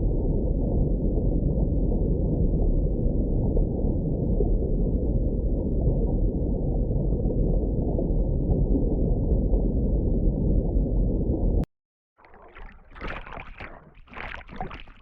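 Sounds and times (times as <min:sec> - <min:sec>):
muffled underwater churning: 0:00.0 - 0:15.0.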